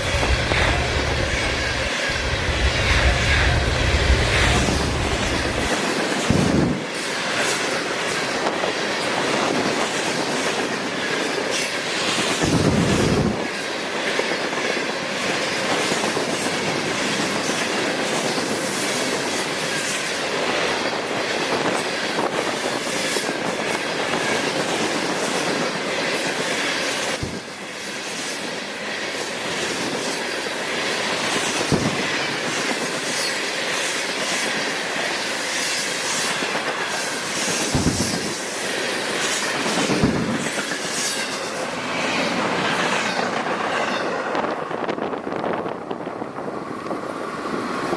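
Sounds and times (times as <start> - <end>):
train wheel squeal: 0.0 - 46.0
train wheels clicking over rails: 0.0 - 47.9.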